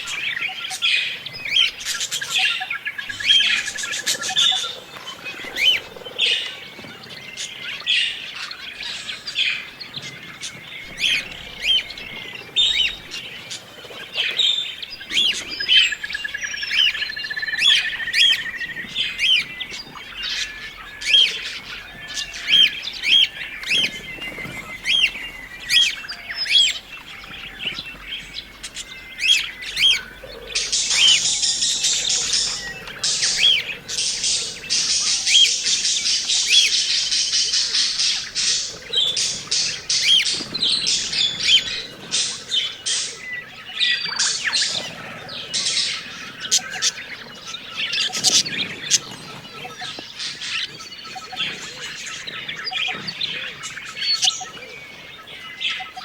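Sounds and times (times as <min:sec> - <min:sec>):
bird warbling trill: 0:00.0 - 0:56.0
budgerigars chirping: 0:00.0 - 0:56.0.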